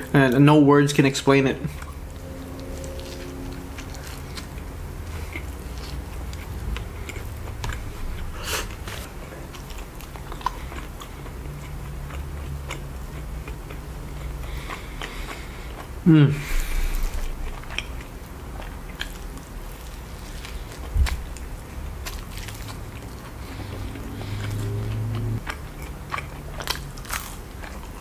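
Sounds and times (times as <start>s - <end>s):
man chewing a burger: 1.7s - 28.0s.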